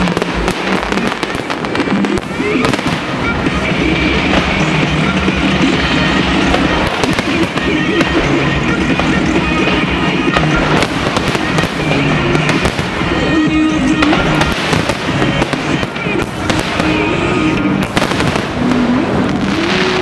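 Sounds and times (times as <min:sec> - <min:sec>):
fireworks bursting and crackling: 0:00.0 - 0:20.0
music playing: 0:00.0 - 0:20.0.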